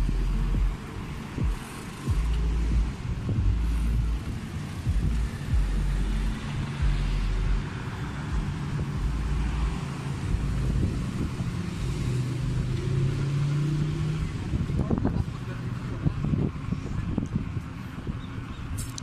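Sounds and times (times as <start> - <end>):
wind buffeting microphone: 0.0 - 18.8
passing road traffic hum: 0.0 - 19.0.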